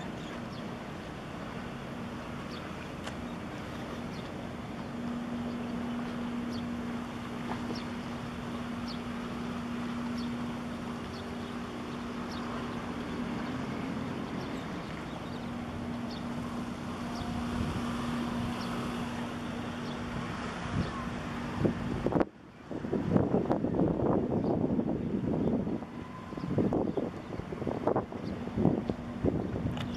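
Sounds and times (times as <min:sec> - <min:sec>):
harbour water noise: 0:00.0 - 0:29.9
ship engine drone: 0:00.0 - 0:29.9
wind: 0:00.0 - 0:29.9.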